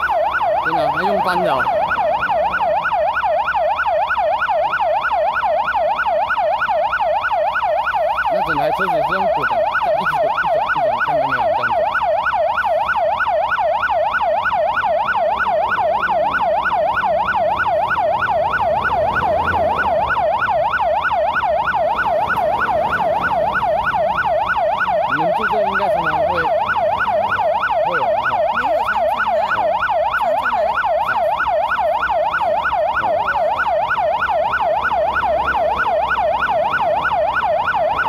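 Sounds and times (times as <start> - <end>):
emergency siren wailing: 0.0 - 38.0.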